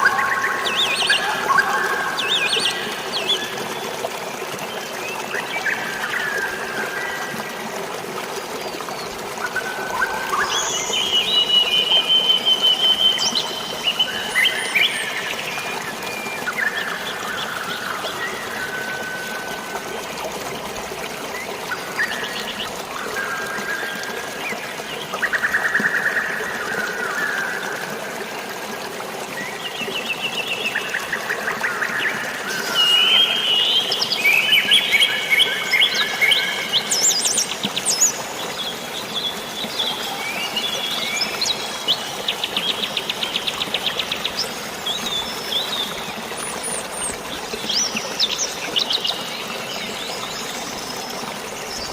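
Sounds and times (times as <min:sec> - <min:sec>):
flowing water: 0:00.0 - 0:51.9.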